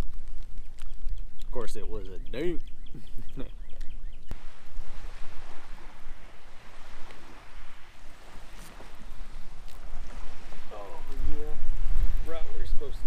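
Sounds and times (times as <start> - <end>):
water lapping around kayak: 0.0 - 13.0
wind buffeting microphone: 0.0 - 13.0.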